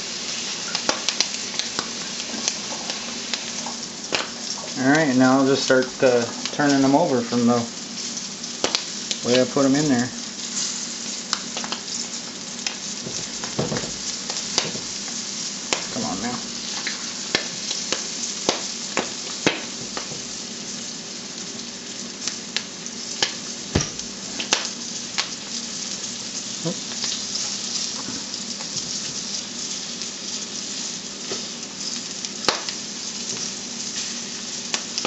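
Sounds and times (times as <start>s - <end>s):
livers sizzling in hot oil: 0.0s - 35.0s.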